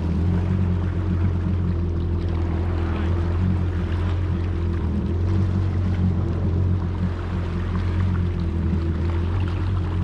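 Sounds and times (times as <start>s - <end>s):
personal watercraft engine drone: 0.0s - 10.0s.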